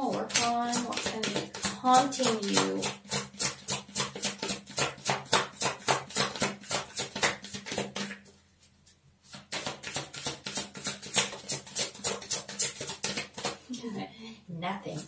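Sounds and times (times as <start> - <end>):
cards being shuffled: 0.2 - 13.6.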